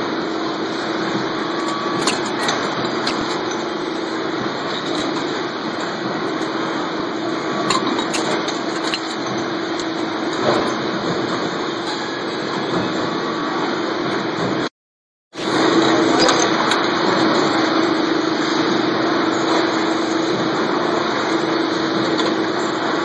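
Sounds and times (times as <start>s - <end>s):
press machine humming: 0.6s - 12.5s, 15.4s - 23.0s.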